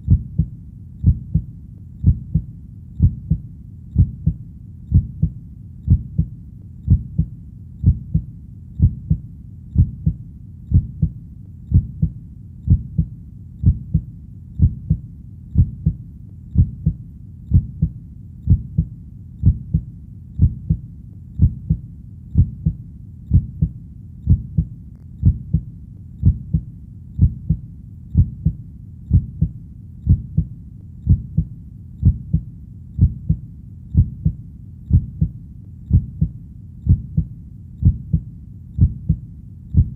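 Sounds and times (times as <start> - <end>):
faint low hum: 0.0 - 39.9
heartbeat lub-dub: 0.0 - 39.9.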